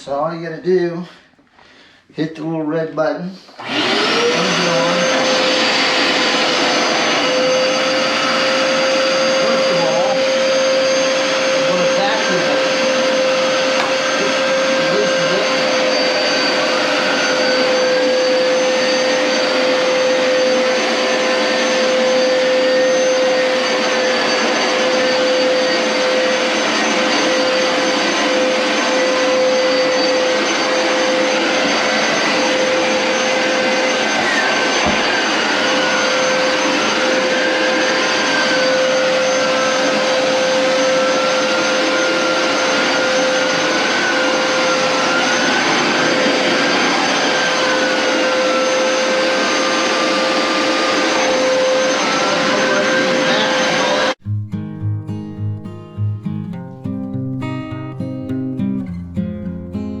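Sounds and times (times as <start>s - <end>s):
carpet cleaner motor whine: 3.6s - 54.2s
suction noise: 3.6s - 54.2s.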